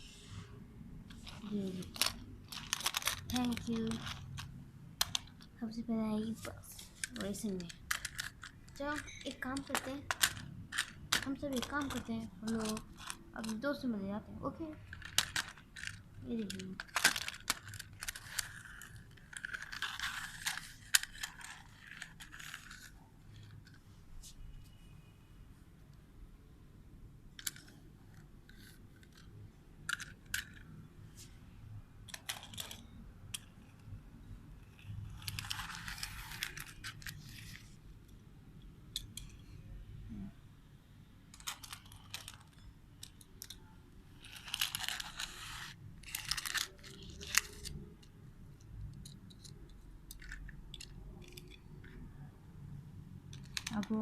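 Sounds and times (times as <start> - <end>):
plastic toys clicking and tapping: 1.1 - 23.8, 27.4 - 30.8, 32.0 - 33.9, 34.7 - 39.4, 41.3 - 52.1, 53.3 - 54.0.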